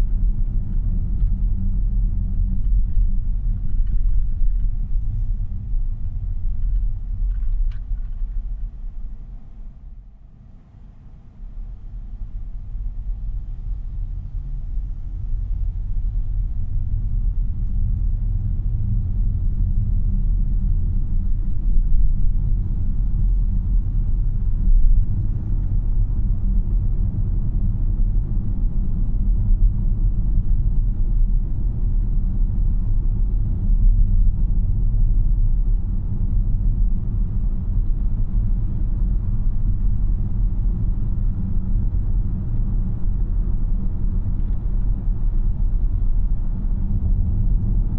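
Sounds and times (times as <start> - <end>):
tyre and road rumble in car: 0.0 - 10.1, 11.5 - 47.9.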